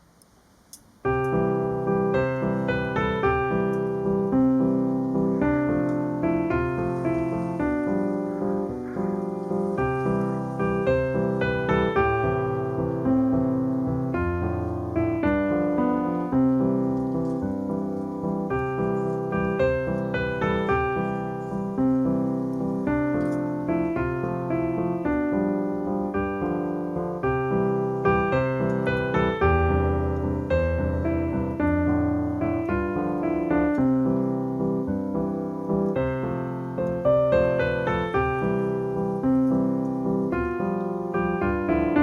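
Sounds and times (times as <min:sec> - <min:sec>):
rhythmic piano music: 0:00.8 - 0:42.0.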